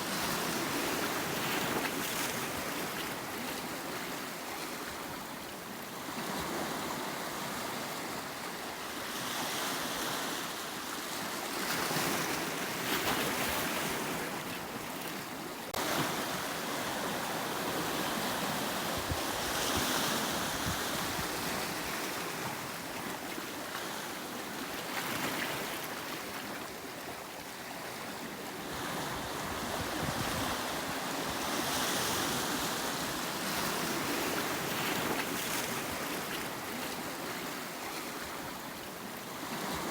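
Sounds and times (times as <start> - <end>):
sea waves on rocky shore: 0.0 - 39.9.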